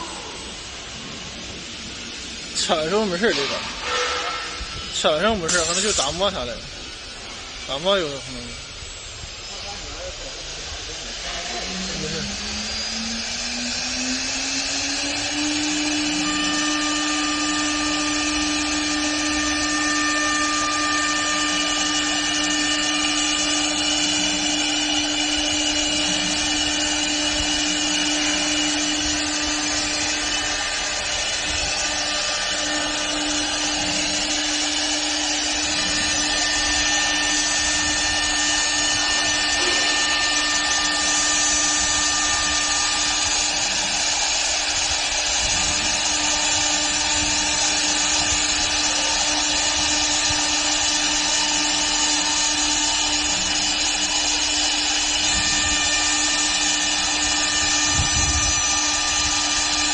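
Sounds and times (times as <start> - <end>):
machine working wood: 0.0 - 59.9
wood lathe motor whine: 0.0 - 59.9.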